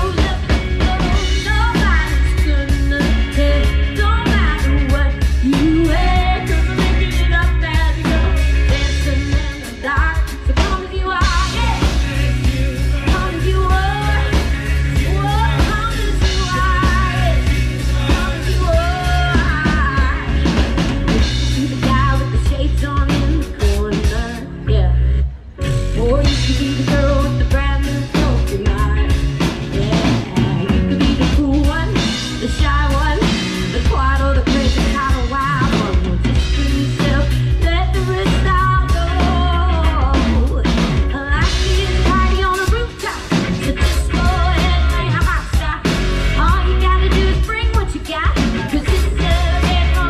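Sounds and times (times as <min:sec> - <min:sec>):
rock band playing: 0:00.0 - 0:50.0
woman singing: 0:00.0 - 0:50.0.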